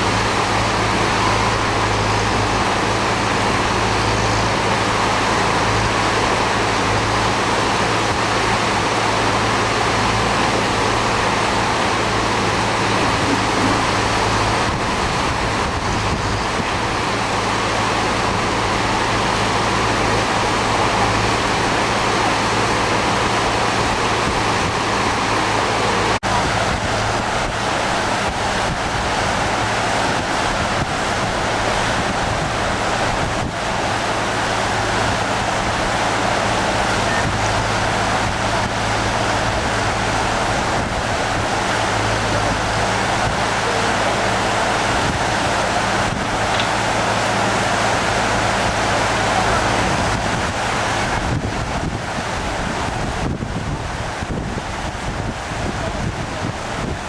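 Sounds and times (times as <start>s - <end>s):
whitewater rushing: 0.0s - 57.0s
wind buffeting microphone: 0.0s - 57.0s.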